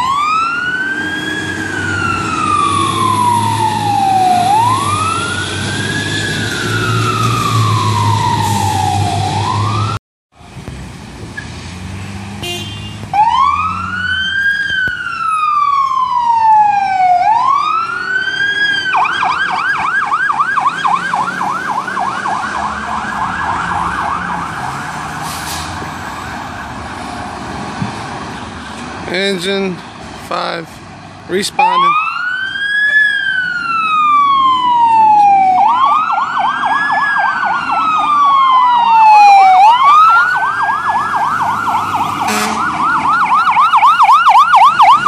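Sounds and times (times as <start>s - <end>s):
fire truck siren wailing: 0.0s - 10.0s, 12.4s - 29.0s, 31.5s - 45.0s
siren yelp: 0.0s - 10.0s, 13.1s - 27.1s, 31.6s - 45.0s.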